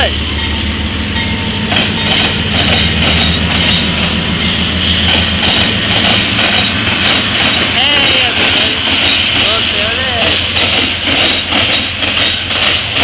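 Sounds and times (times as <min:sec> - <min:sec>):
locomotive engine drone: 0:00.0 - 0:13.0
wheels clacking on rails: 0:00.0 - 0:13.0.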